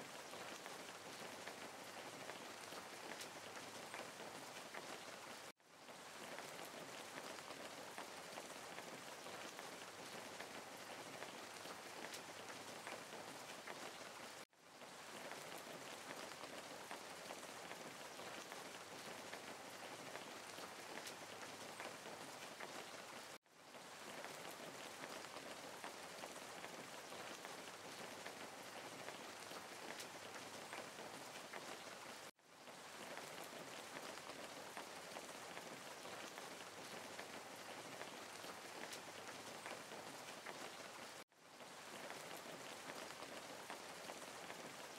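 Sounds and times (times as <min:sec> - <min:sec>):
rain-like hiss: 0:00.0 - 0:44.9.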